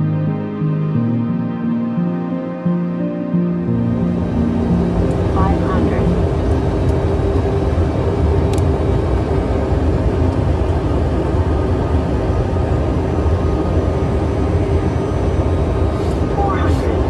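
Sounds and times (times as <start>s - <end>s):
aircraft engine and airflow drone: 0.0s - 17.0s
low hum: 1.6s - 17.0s.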